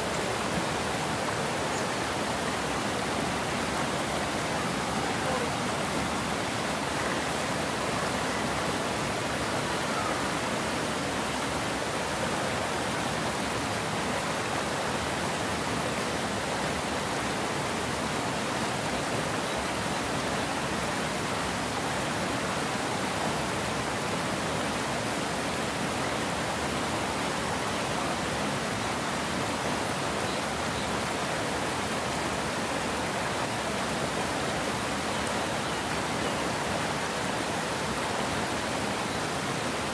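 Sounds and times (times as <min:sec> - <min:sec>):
water rushing over weir: 0:00.0 - 0:39.9.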